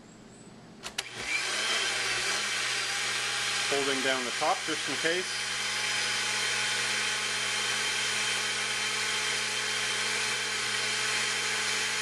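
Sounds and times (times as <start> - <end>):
blender motor whirring: 0.9 - 12.0.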